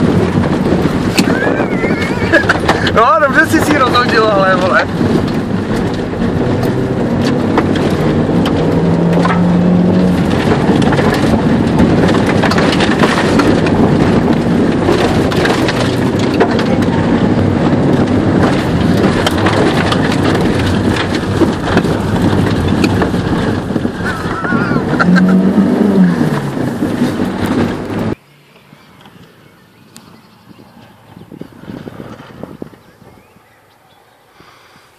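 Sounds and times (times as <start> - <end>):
car engine revving: 0.0 - 32.7
knocks and rattles from bumpy road: 0.0 - 34.8.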